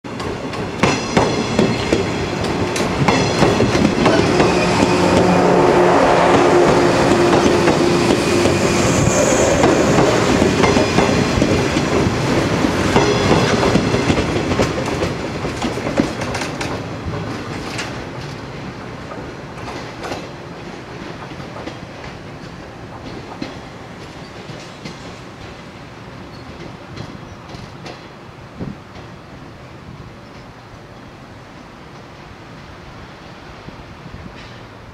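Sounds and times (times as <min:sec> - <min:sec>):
train wheels clattering: 0:00.1 - 0:29.2
train humming tone: 0:00.1 - 0:34.9.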